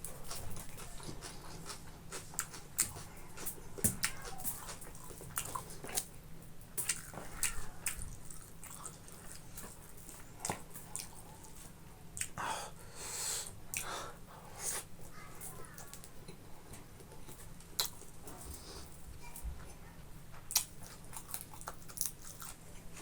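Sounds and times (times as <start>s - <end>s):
person chewing food: 0.0s - 12.6s, 13.4s - 19.0s, 20.4s - 23.0s.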